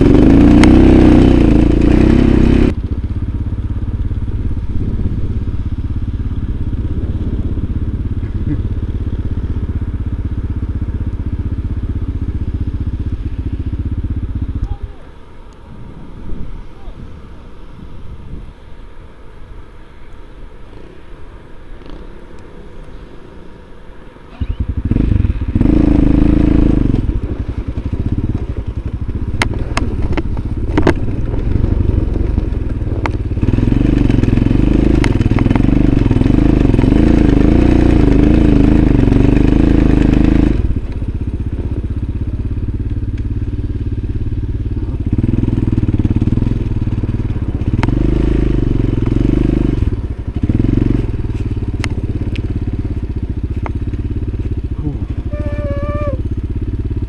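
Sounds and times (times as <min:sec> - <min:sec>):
motorcycle engine revving: 0:00.0 - 0:19.6, 0:21.6 - 0:57.0.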